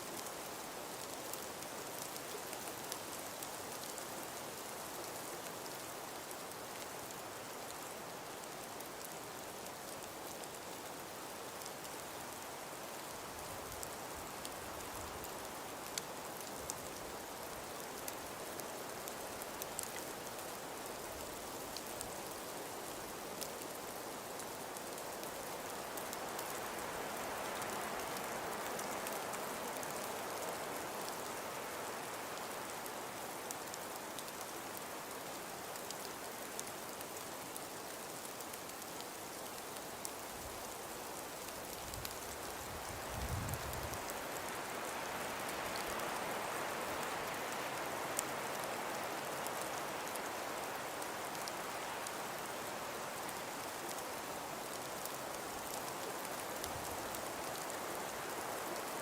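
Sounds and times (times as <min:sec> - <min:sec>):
hiss of falling snow: 0:00.0 - 0:59.0
wind: 0:00.0 - 0:59.0.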